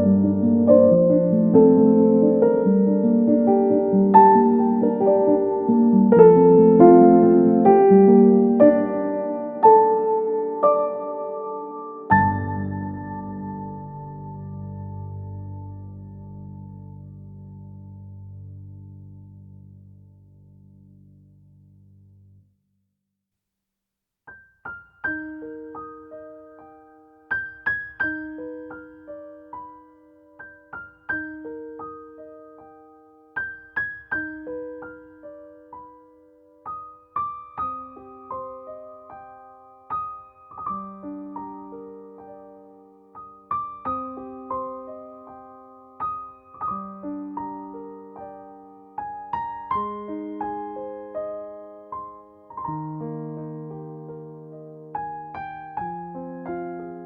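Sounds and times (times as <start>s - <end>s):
gentle piano music: 0.0s - 22.4s, 24.3s - 57.0s.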